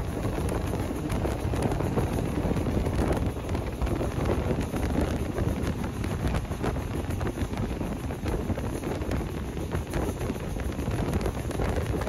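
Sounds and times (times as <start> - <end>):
train wheels rumbling on track: 0.0 - 12.0
wind buffeting microphone: 0.0 - 12.0.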